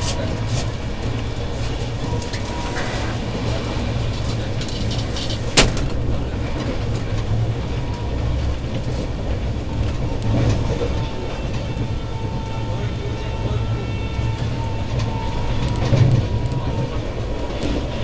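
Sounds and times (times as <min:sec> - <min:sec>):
train rumbling at speed: 0:00.0 - 0:18.0.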